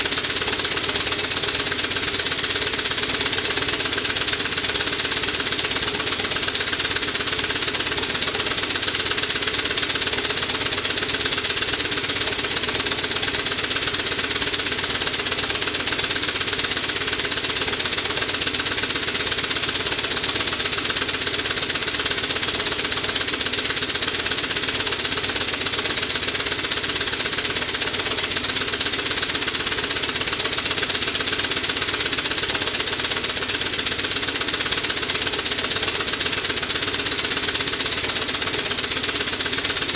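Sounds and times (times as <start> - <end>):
steam engine chuffing: 0.0 - 39.9.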